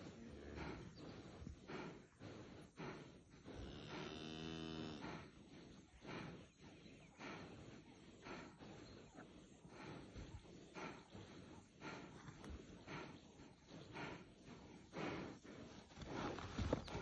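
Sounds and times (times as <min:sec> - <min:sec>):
rough huffs: 0:00.0 - 0:17.0.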